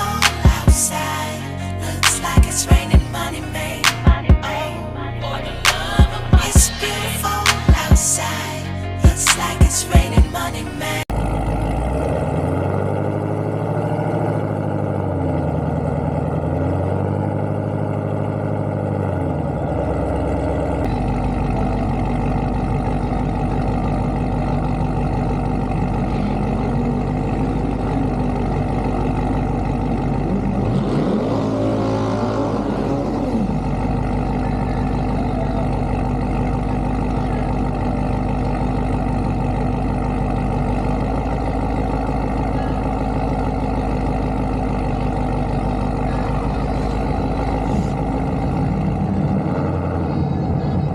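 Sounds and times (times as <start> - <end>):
car engine revving: 0.0 - 50.9
engine sweeping in pitch: 0.0 - 50.9.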